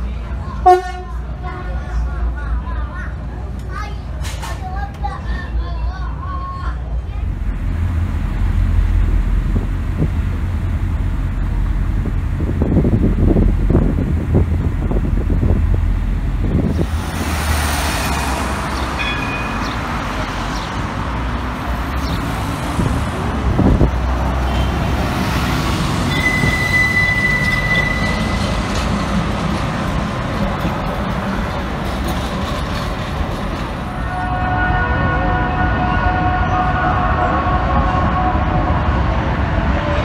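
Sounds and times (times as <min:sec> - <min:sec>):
street noise: 0:00.0 - 0:40.0
tram rail rumble: 0:00.0 - 0:40.0.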